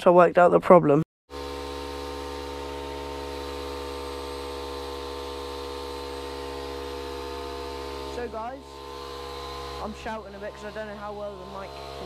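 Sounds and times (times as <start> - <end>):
electric air compressor running: 1.3 - 12.0.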